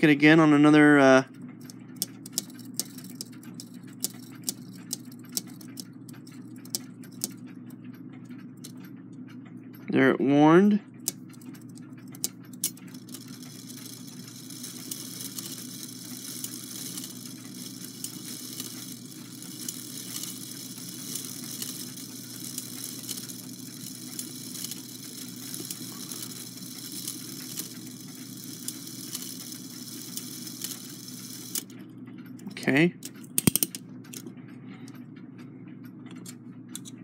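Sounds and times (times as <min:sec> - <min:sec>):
clock gears whirring: 0:00.0 - 0:10.2, 0:10.8 - 0:37.0.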